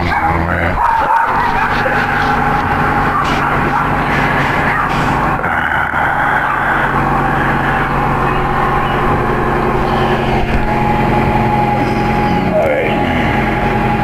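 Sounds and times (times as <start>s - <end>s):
steady mechanical drone: 0.0s - 14.0s.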